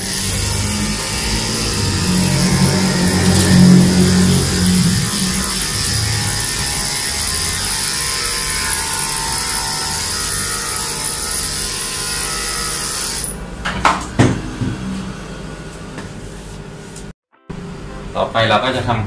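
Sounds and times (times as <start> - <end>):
electric clippers shaving fur: 0.0 - 16.2.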